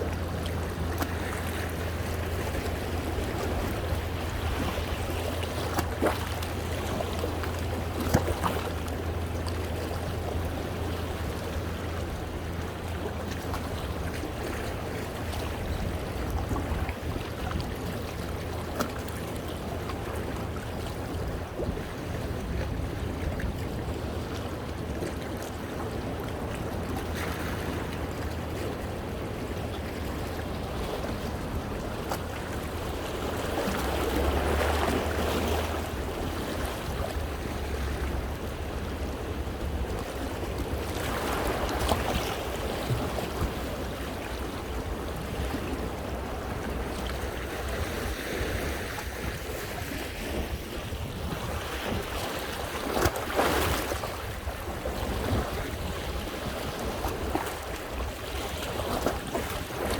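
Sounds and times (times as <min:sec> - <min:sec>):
sea waves washing over rocks: 0:00.0 - 0:59.9
wind rumble on microphone: 0:00.0 - 0:59.9.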